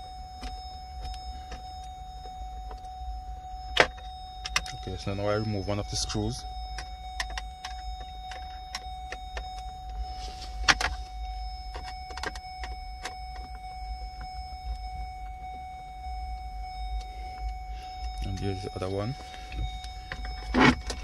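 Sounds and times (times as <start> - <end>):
steady high-pitched tone: 0.0 - 21.0.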